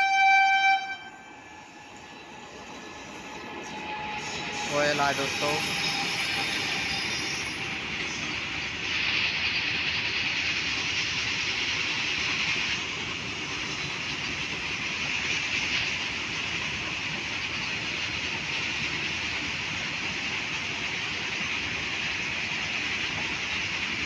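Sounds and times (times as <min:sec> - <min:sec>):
freight train wheels rumbling on rails: 0:00.0 - 0:24.0.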